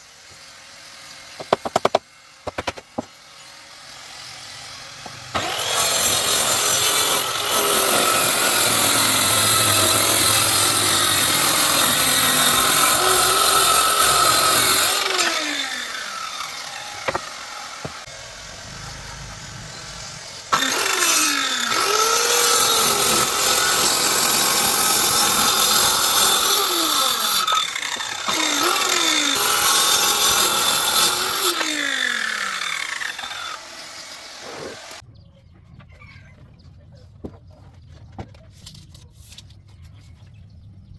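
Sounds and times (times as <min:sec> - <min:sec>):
power tool cutting wood: 0:00.0 - 0:35.0.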